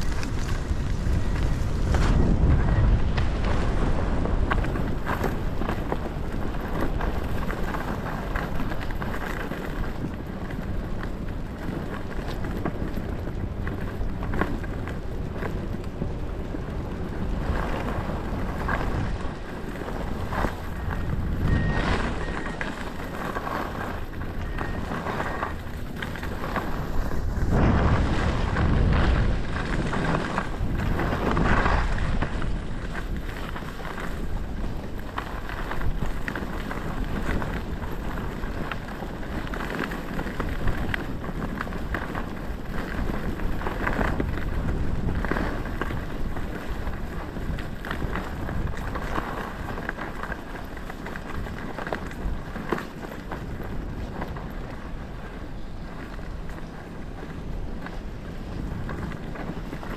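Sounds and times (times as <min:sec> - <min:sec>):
skis scraping over snow: 0:00.0 - 0:59.9
wind buffeting microphone: 0:00.0 - 0:59.9.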